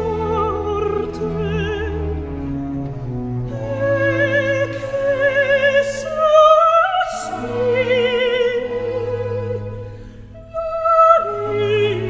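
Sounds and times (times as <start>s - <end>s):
classical music accompaniment: 0.0s - 12.0s
operatic singing: 0.0s - 12.0s.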